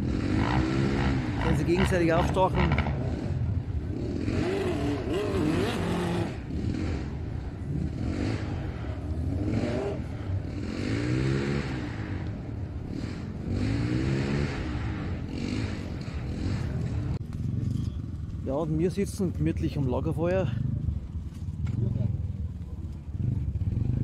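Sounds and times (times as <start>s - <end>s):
idling engines rumbling: 0.0s - 24.0s
motorcycle engines revving: 0.0s - 24.0s.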